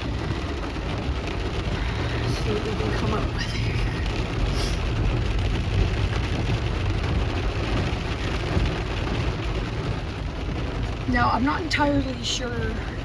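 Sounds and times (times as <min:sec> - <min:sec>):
car engine and road rumble: 0:00.0 - 0:13.0
rain pattering on car: 0:00.0 - 0:13.0.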